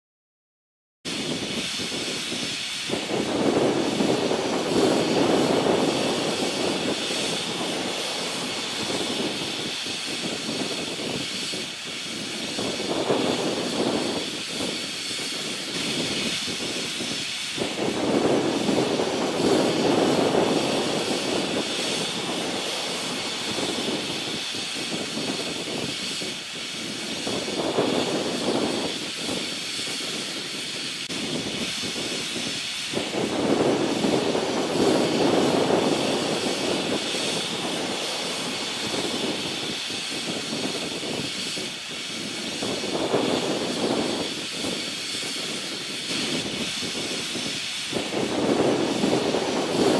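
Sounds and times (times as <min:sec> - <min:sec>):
steam locomotive hissing: 0:01.1 - 0:49.9.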